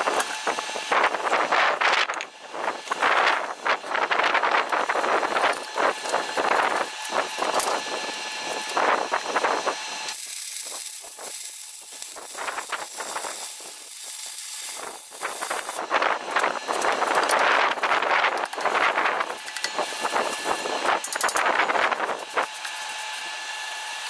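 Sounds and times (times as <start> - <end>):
welding arc crackling: 0.0 - 24.0.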